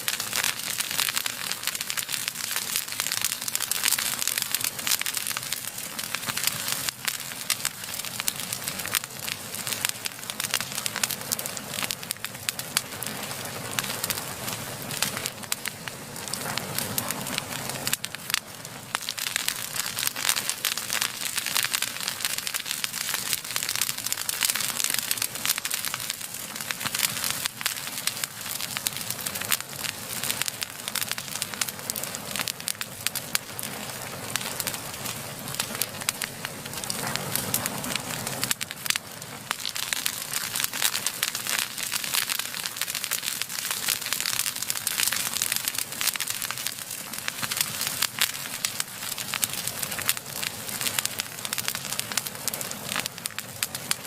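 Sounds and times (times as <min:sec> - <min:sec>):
hiss of flame: 0:00.0 - 0:54.0
wood fire crackling and popping: 0:00.0 - 0:54.0.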